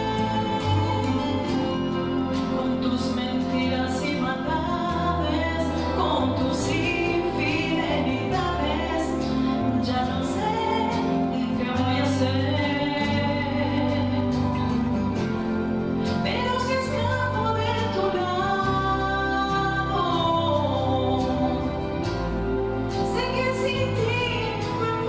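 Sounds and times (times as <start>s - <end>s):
instrumental accompaniment: 0.0s - 25.0s
woman singing into microphone: 0.0s - 25.0s.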